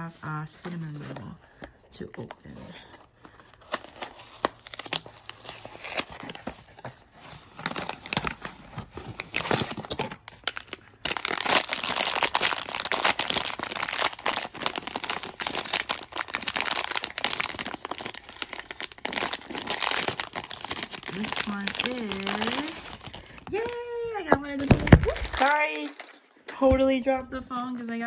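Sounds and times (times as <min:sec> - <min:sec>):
plastic wrapper crinkling: 0:00.7 - 0:28.0.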